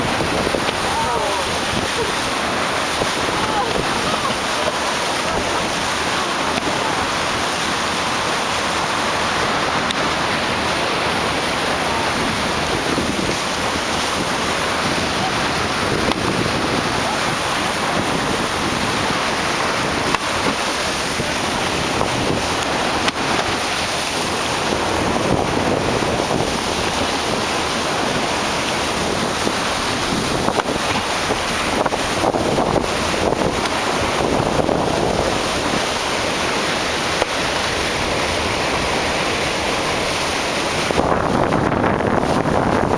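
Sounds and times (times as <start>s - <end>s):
water rushing along boat: 0.0s - 42.9s
wind noise on microphone: 0.0s - 42.9s.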